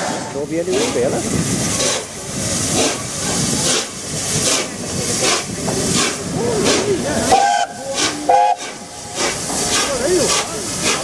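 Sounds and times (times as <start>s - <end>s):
steam hissing: 0.0s - 11.0s
steam locomotive chuffing: 0.0s - 11.0s.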